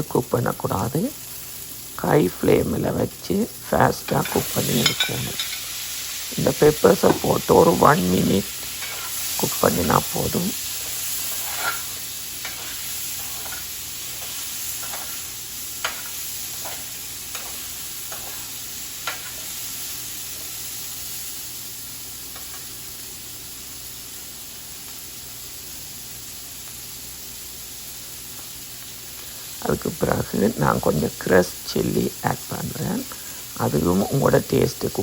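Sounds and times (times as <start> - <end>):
vegetables sizzling in a pan: 0.0 - 35.0.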